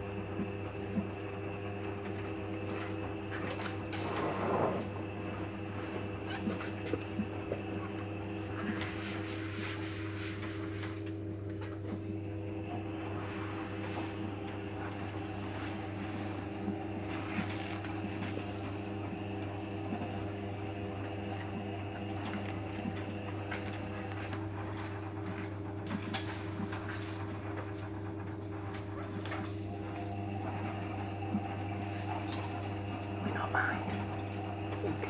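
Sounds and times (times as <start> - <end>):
washing machine motor humming: 0.0 - 35.0.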